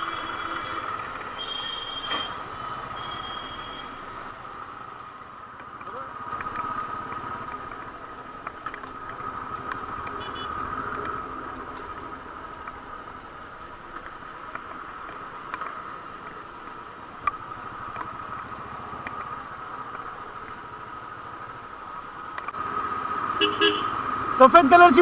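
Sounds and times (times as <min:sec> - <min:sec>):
motorcycle road and wind noise: 0:00.0 - 0:25.0.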